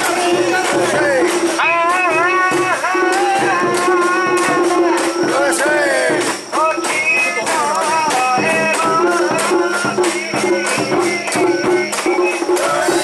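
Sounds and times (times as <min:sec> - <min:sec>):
crowd chanting: 0:00.0 - 0:13.0
rhythmic metallic rattling: 0:00.0 - 0:13.0.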